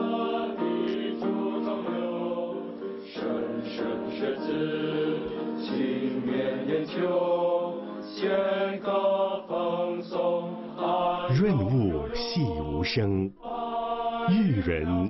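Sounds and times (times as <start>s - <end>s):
boys choir singing: 0.0s - 15.0s.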